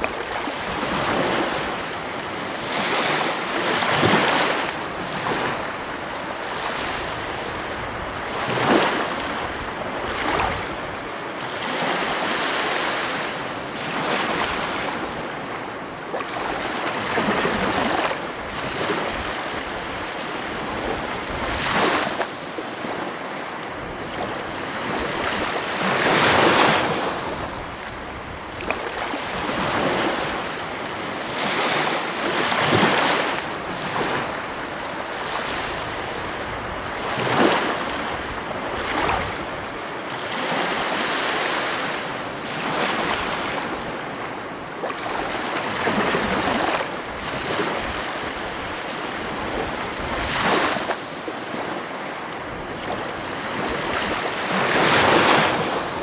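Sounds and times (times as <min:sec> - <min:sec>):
surf washing: 0:00.0 - 0:56.0
waves crashing: 0:00.0 - 0:56.0.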